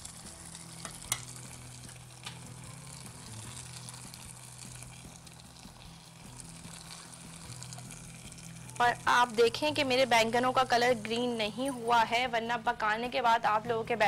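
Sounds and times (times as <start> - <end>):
food sizzling in a pan: 0.0 - 12.2.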